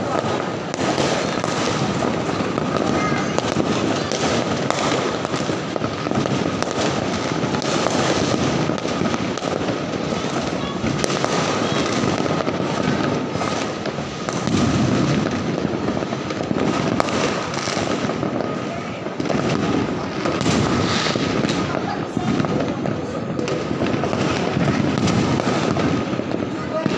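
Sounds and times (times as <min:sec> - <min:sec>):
firecracker pops and bangs: 0:00.0 - 0:26.9
fireworks crackling: 0:00.0 - 0:26.9.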